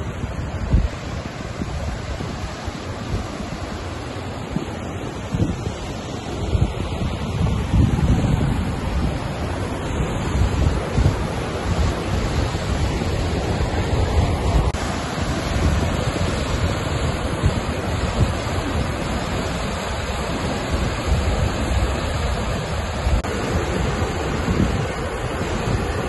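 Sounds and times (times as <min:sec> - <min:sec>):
waterfall rushing: 0:00.0 - 0:26.0
wind buffeting microphone: 0:00.0 - 0:26.0.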